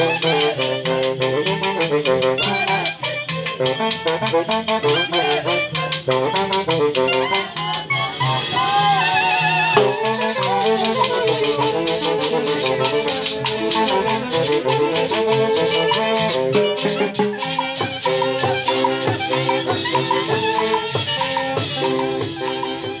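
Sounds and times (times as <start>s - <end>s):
horn band playing melody: 0.0s - 23.0s.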